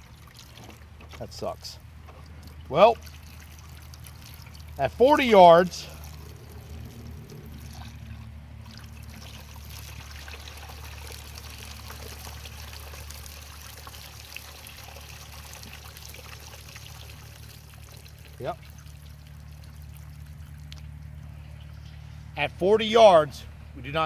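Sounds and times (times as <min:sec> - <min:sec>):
water pouring from plastic jug: 0:00.0 - 0:01.2, 0:02.2 - 0:21.8.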